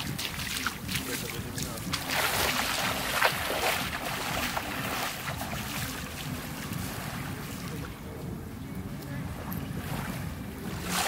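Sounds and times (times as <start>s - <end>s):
waves lapping on sandy shore: 0.0s - 11.0s
wind rumble on microphone: 0.0s - 11.0s.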